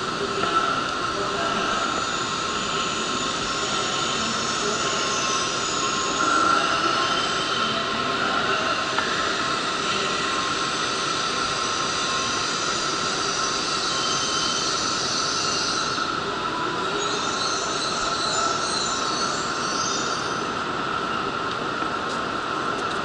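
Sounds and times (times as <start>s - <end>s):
train rushing: 0.0s - 23.0s.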